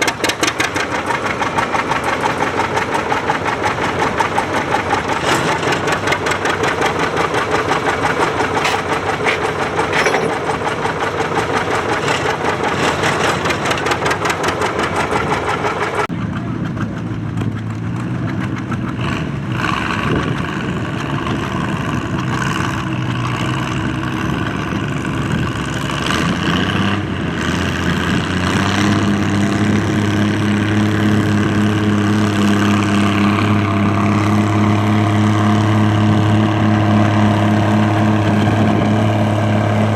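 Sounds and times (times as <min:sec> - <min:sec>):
tractor engines running hard: 0:00.0 - 0:39.9.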